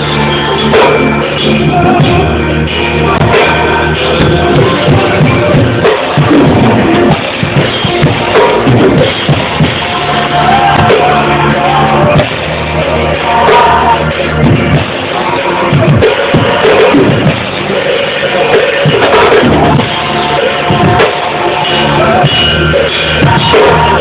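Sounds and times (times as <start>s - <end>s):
band music with drum kit: 0.0s - 24.0s
person singing: 0.0s - 24.0s.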